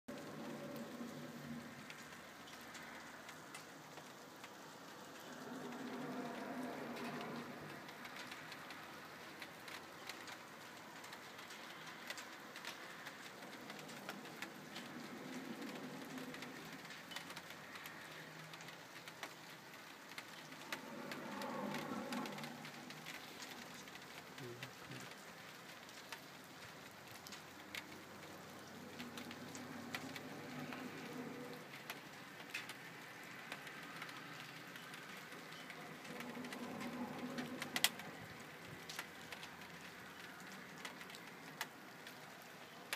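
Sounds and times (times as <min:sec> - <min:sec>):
steady rain: 0:00.1 - 0:42.9.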